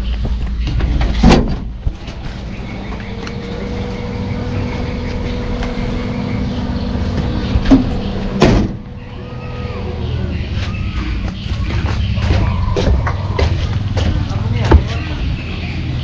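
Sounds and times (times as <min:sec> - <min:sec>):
motorcycle engine running: 0:02.4 - 0:16.0.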